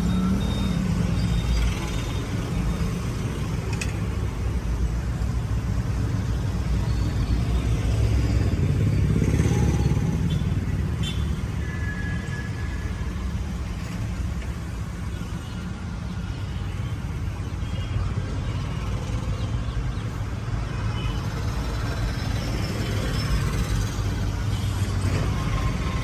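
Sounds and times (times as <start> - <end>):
low rumble of road traffic: 0.0 - 26.0.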